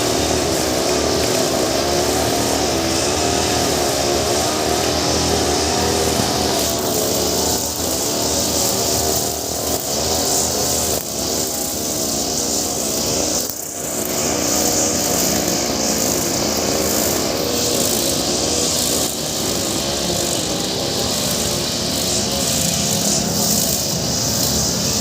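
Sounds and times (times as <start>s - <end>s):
brush cutter engine cutting grass: 0.0s - 25.0s.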